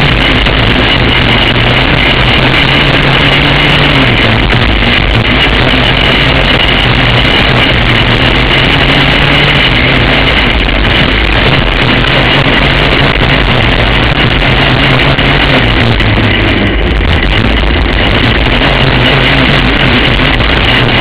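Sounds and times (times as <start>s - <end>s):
kart engine running hard: 0.0s - 21.0s.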